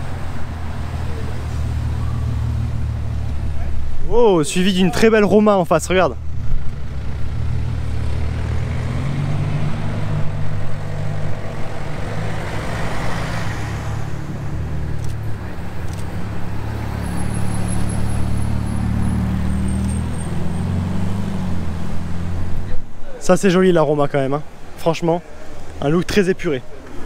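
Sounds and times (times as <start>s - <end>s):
car passing: 0.0s - 23.0s
car engines at low speed: 0.0s - 24.9s.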